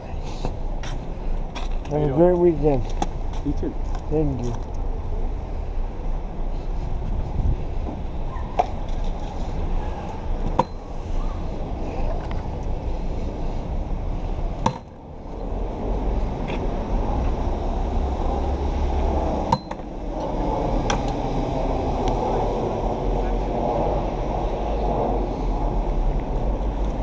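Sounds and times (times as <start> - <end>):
passing traffic rumble: 0.0 - 27.0.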